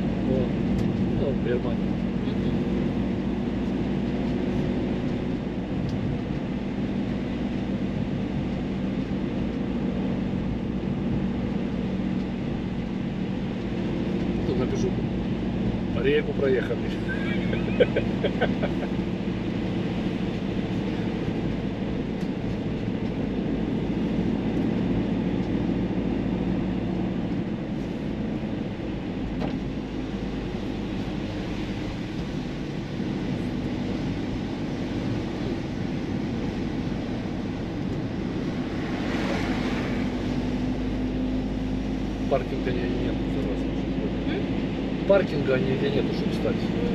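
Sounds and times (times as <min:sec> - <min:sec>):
car engine hum: 0:00.0 - 0:46.9
tyre and road noise: 0:00.0 - 0:46.9.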